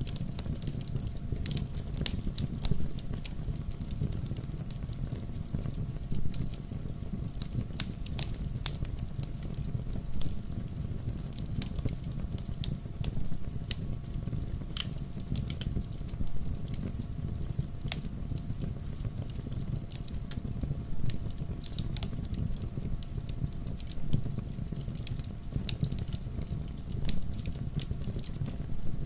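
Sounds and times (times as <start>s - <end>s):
bonfire crackling and popping: 0.0s - 29.0s
low fire rumble: 0.0s - 29.0s.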